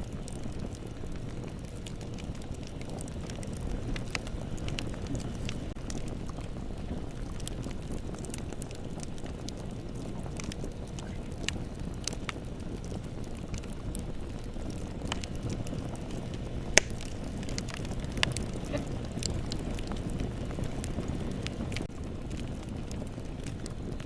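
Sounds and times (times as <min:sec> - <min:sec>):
bonfire rumbling: 0:00.0 - 0:24.0
fire crackles and pops: 0:00.0 - 0:24.0.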